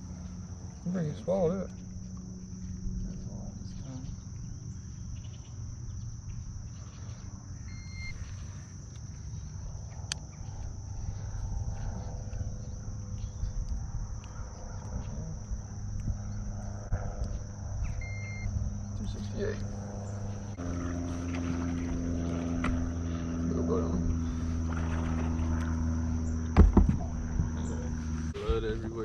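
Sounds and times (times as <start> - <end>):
insects chirping chorus: 0.0 - 29.0
low steady rumble: 0.0 - 29.0.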